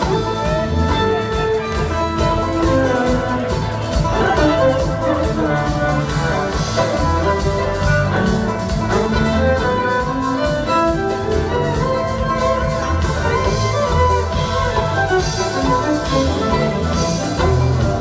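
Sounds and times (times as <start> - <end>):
live string band playing: 0.0 - 18.0.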